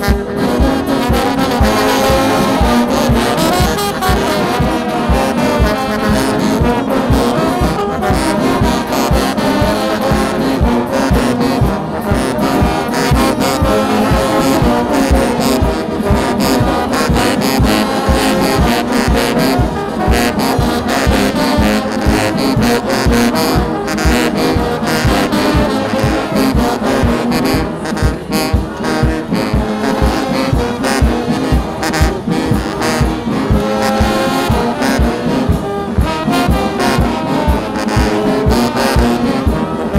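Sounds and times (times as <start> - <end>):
brass band music: 0.0 - 39.9.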